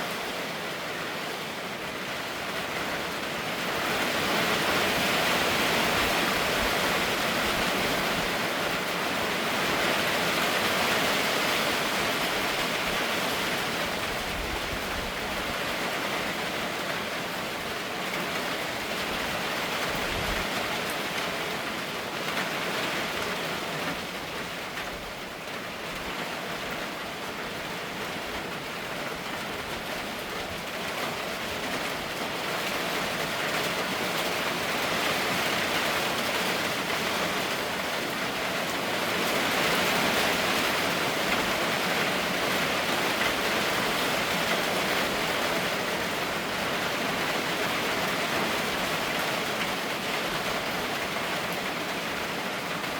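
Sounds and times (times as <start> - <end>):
steady rainfall: 0.0 - 52.9.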